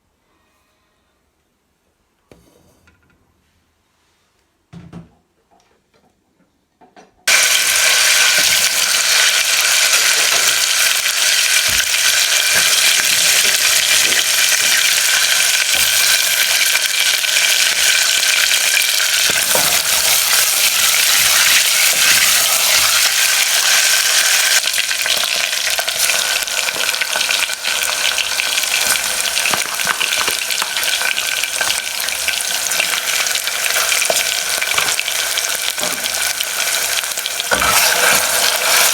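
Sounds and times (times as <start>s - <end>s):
food sizzling in hot oil: 7.3s - 38.9s.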